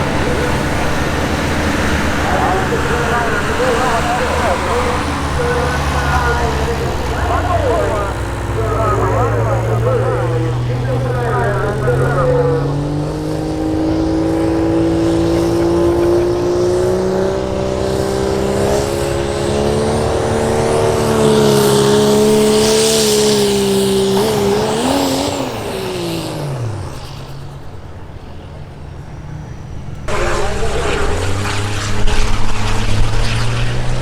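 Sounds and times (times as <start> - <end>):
diesel truck engine at full throttle: 0.0 - 34.0.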